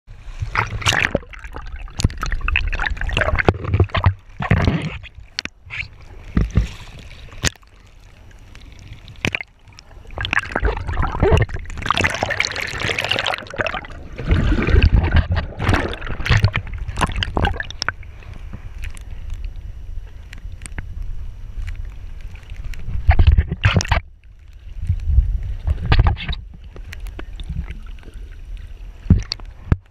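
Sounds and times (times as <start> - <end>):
sea water sloshing and splashing: 0.1 - 29.9.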